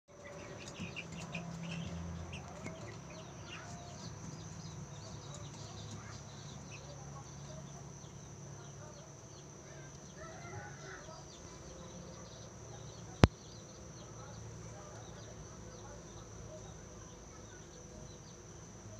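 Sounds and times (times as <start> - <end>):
chicks peeping: 0.1 - 18.9.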